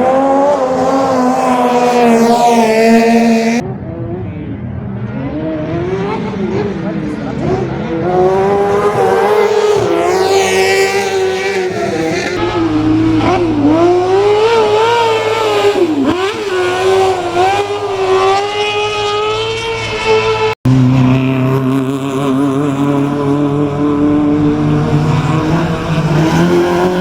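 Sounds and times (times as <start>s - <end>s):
racing car engine revving: 0.0s - 27.0s.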